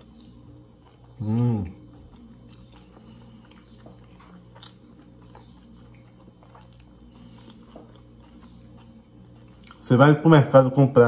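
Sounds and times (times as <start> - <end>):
chewing with full mouth: 0.0 - 9.9
low steady hum: 0.0 - 11.0.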